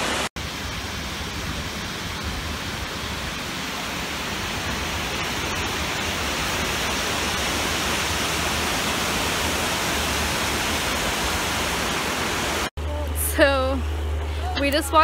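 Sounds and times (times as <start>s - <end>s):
waterfall rushing: 0.0s - 12.7s.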